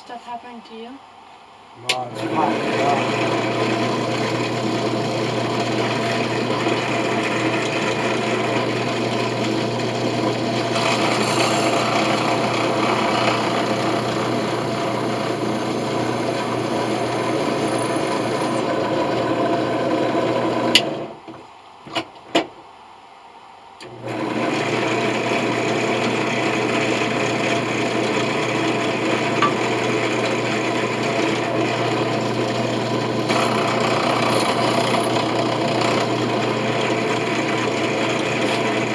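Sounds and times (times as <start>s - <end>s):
electric drill grinding into metal: 2.2s - 21.1s, 23.8s - 38.9s.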